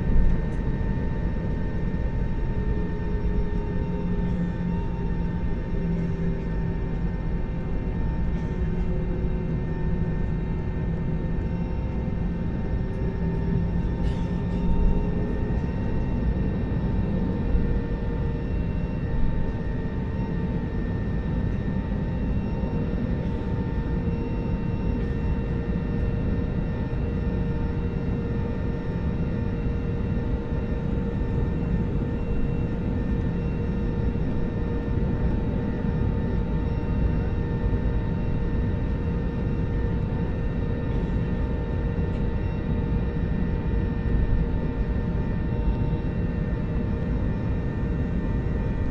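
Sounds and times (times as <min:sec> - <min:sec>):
jet engines in passenger cabin: 0:00.0 - 0:48.9.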